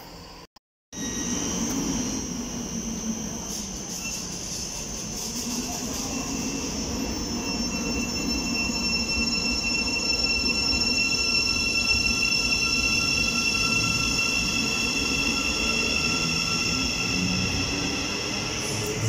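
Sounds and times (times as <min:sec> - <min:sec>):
high-pitched train whine: 0:01.0 - 0:19.0
train rumbling past: 0:01.0 - 0:19.0.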